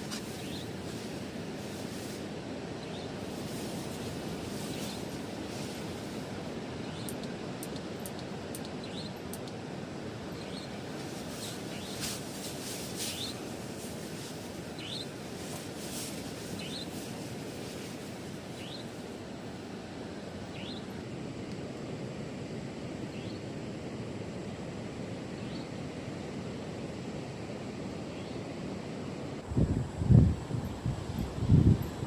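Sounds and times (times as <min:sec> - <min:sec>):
wind: 0:00.0 - 0:32.0.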